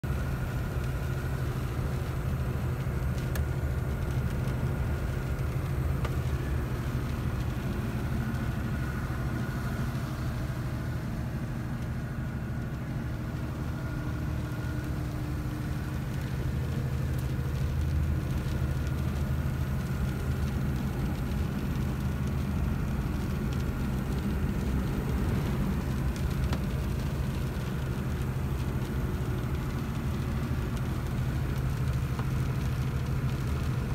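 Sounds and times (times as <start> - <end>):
truck engine low drone: 0.0 - 33.9.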